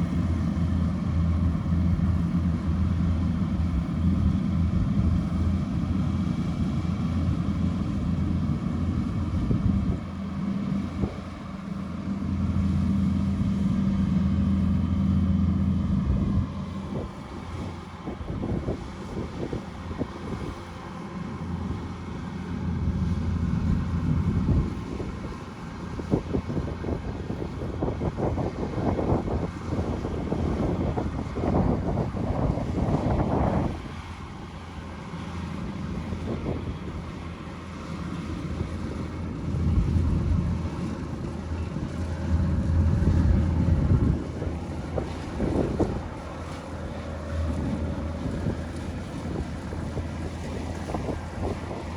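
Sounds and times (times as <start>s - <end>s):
wind on microphone: 0.0s - 11.5s, 12.2s - 35.0s, 38.3s - 51.9s
diesel engine rumbling: 0.0s - 51.9s.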